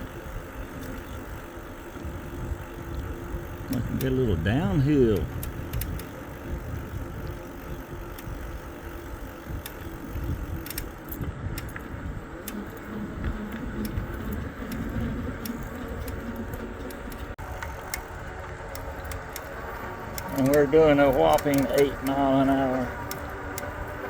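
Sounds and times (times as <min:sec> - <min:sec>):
bike rattles and clicks: 0:00.0 - 0:24.0
tyres rolling on pavement: 0:00.0 - 0:24.0
wind rumble on microphone: 0:00.0 - 0:24.0.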